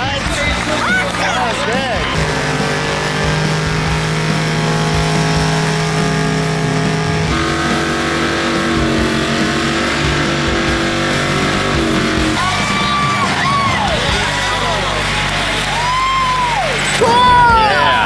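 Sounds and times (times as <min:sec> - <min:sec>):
engine at high revs: 0:00.0 - 0:18.0.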